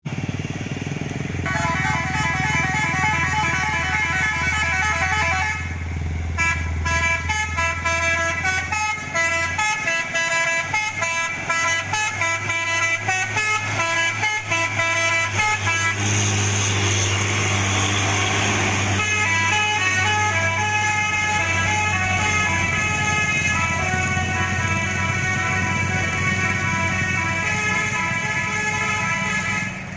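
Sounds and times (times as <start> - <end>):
musical air horn melody: 1.4 - 29.9.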